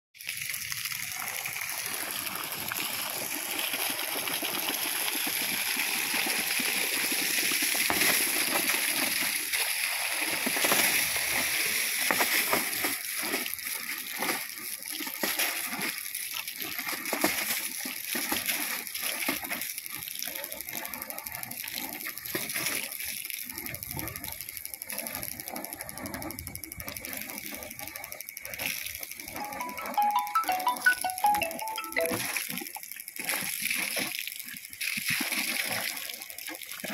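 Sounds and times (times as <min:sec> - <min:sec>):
water gushing onto soil: 0:00.2 - 0:25.6, 0:28.6 - 0:36.9.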